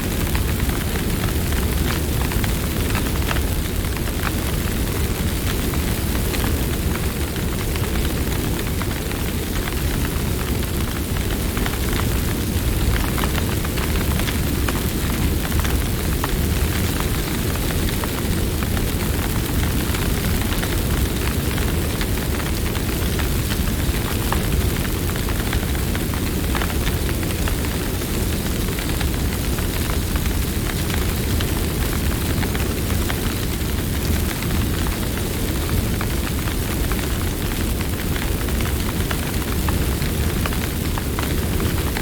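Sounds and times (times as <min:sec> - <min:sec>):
campfire flames rumbling: 0:00.0 - 0:42.0
fire crackles and pops: 0:00.0 - 0:42.0.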